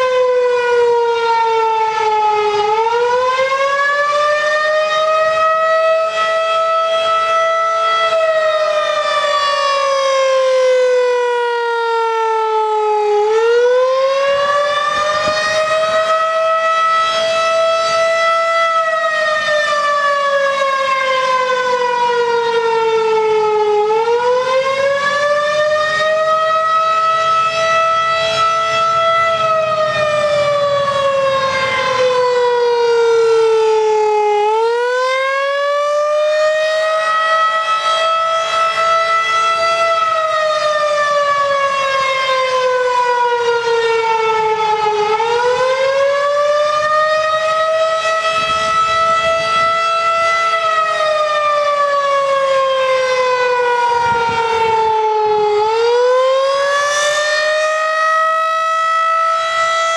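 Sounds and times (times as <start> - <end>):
rotating siren wailing: 0.0 - 59.9.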